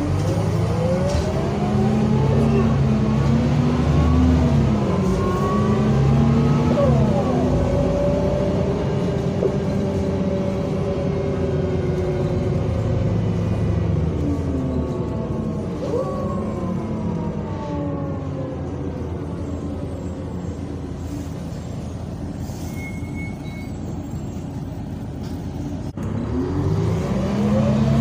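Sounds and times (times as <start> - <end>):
bus diesel engine pulling away: 0.0 - 28.0.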